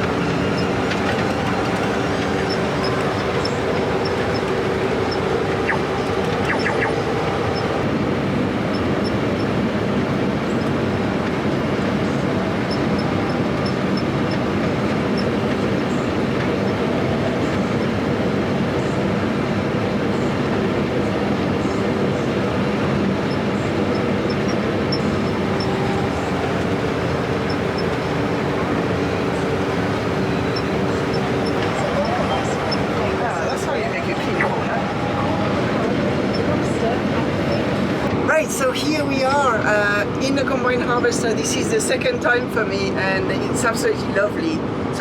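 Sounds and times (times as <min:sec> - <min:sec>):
combine harvester mechanical drone: 0:00.0 - 0:45.0.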